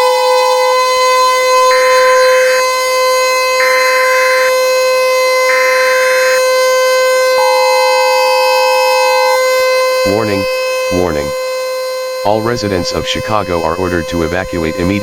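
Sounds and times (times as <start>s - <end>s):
harsh electronic buzzing tones: 0.0s - 15.0s
steady electronic siren tone: 0.0s - 15.0s.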